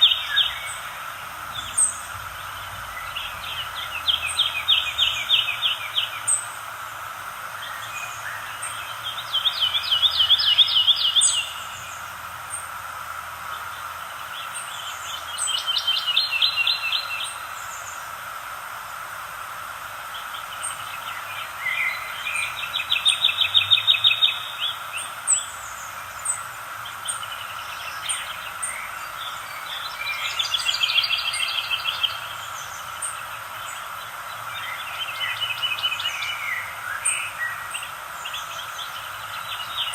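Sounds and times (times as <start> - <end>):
songbird trilling: 0.0 - 6.7, 7.5 - 12.7, 13.5 - 18.0, 20.1 - 39.9
soft outdoor hiss: 0.0 - 39.9.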